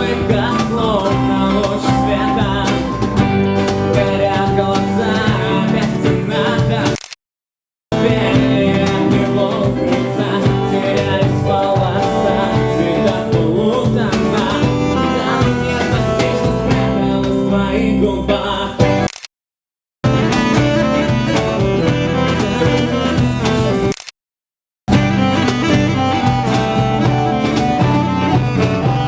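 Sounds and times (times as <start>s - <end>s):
live band with guitar: 0.0s - 7.0s, 8.0s - 18.0s, 18.8s - 19.1s, 20.0s - 24.0s, 24.9s - 29.0s.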